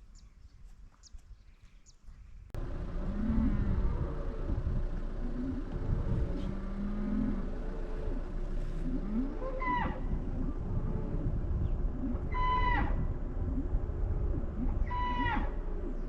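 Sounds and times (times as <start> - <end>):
animal calling: 2.6 - 16.0
steady low rumble: 2.6 - 16.0.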